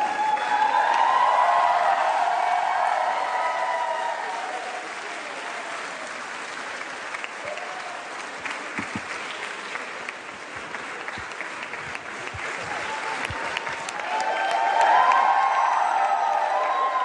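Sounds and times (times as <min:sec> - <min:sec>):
crowd applauding: 0:00.0 - 0:17.0
crowd voices: 0:00.0 - 0:17.0.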